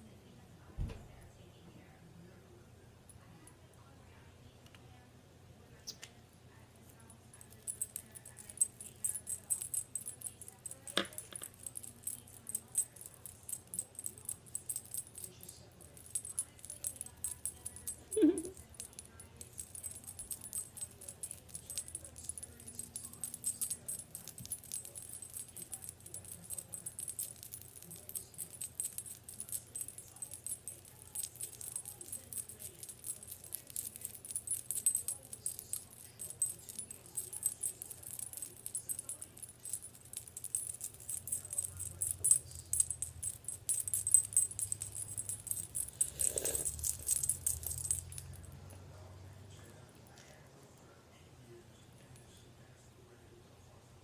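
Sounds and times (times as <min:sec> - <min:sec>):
fast light rattling and jingling: 0:06.8 - 0:50.4.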